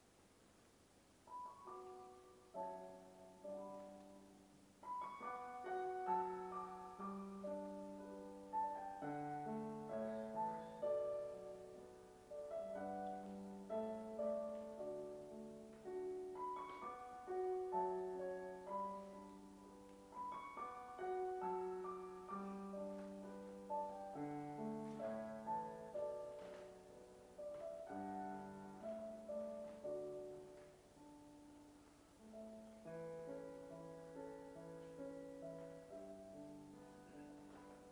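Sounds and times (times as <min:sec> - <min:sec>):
slow solo piano music: 0:01.2 - 0:37.9.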